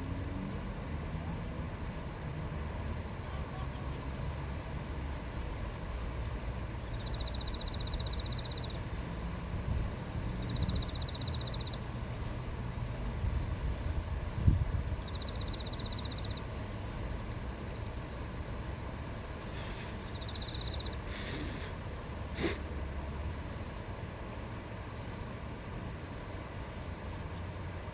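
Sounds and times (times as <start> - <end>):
river water flowing: 0.0 - 27.9.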